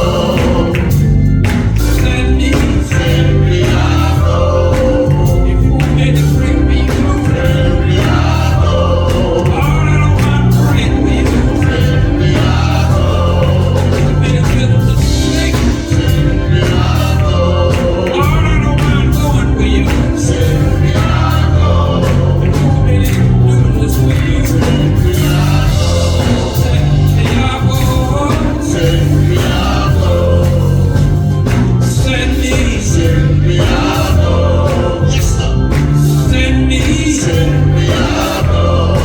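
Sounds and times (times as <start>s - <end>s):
drums: 0.0s - 39.0s
gospel singing: 0.0s - 39.0s
heavy bass line: 0.0s - 39.0s.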